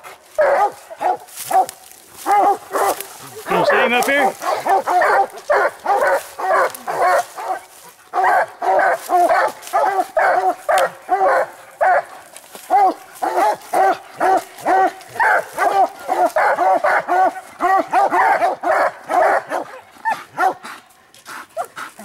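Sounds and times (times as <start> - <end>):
hounds barking: 0.0 - 20.8.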